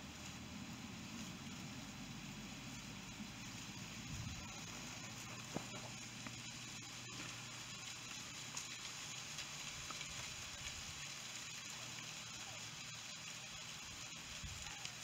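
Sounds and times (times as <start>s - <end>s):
goats rustling leaves and twigs: 0.0s - 15.0s
steady hiss: 0.0s - 15.0s.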